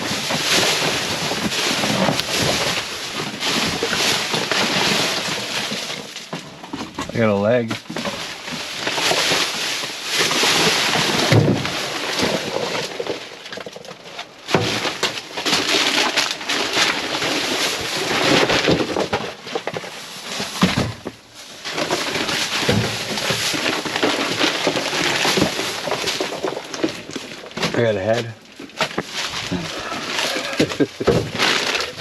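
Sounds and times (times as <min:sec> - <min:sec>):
bags rustling and crinkling: 0:00.0 - 0:32.0
items knocking and clattering: 0:00.0 - 0:32.0.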